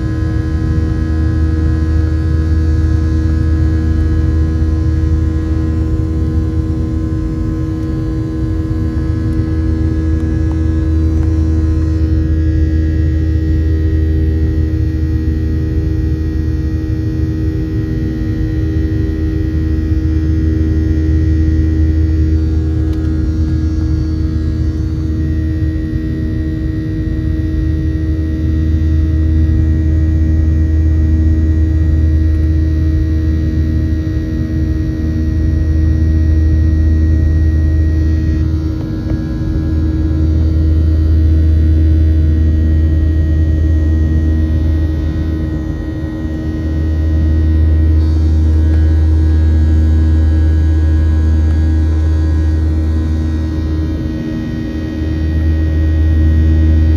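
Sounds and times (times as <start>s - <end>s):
aircraft cabin engine drone: 0.0s - 56.9s.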